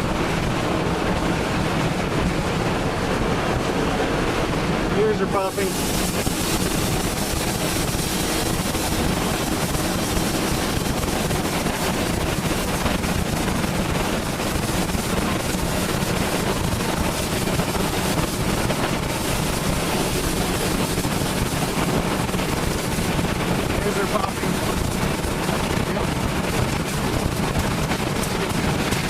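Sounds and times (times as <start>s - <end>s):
tornado winds rushing around vehicle: 0.0s - 29.0s.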